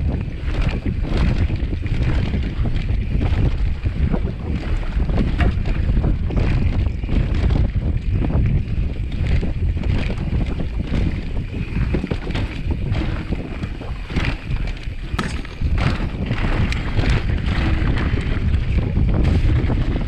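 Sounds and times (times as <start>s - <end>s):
bike knocks and rattles: 0.0s - 20.0s
low rumble: 0.0s - 20.0s
wind buffeting microphone: 0.0s - 20.0s.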